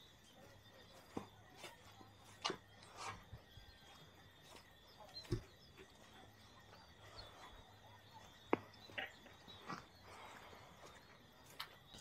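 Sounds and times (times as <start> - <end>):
distant bird calls: 0.0 - 12.0.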